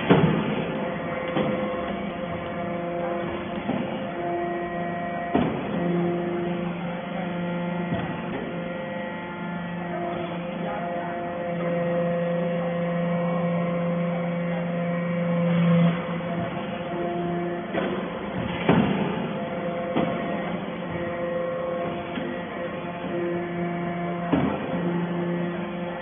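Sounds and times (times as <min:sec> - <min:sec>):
hydraulic press motor hum: 0:00.0 - 0:26.0.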